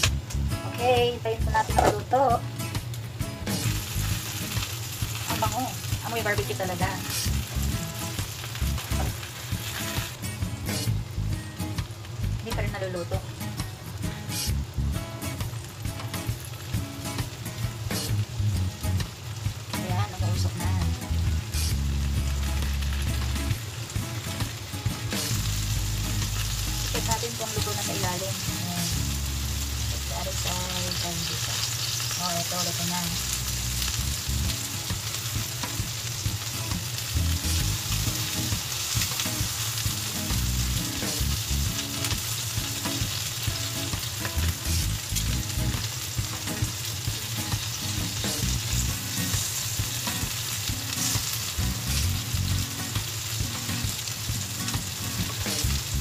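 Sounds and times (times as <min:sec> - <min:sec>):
chicken sizzling on grill pan: 0:00.0 - 0:56.0.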